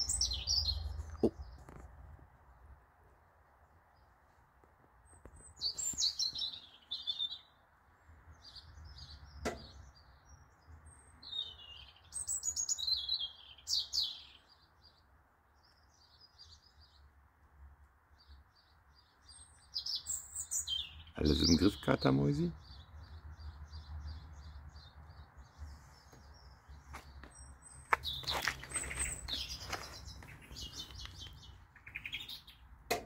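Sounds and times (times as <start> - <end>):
songbirds singing: 0.0 - 33.0.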